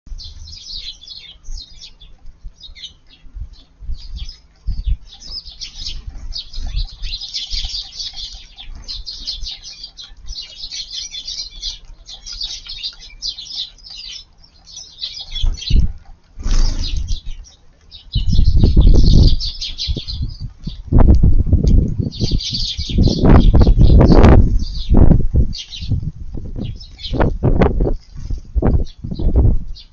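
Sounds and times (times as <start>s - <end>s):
sparrows chirping: 0.1s - 29.9s.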